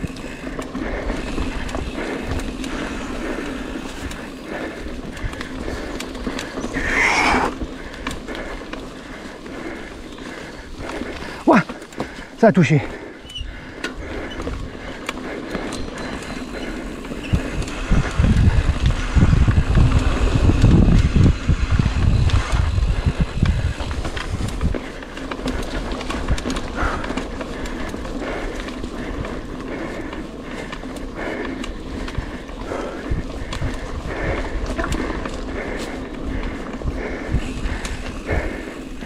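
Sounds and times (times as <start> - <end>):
bike rattling: 0.0 - 39.0
bike tyres on rough trail: 0.0 - 39.0.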